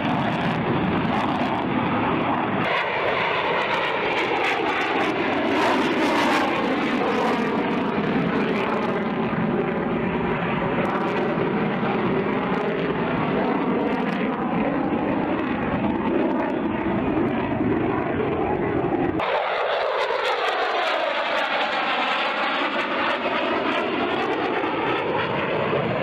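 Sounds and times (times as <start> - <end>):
fighter jet engine noise: 0.0 - 26.0.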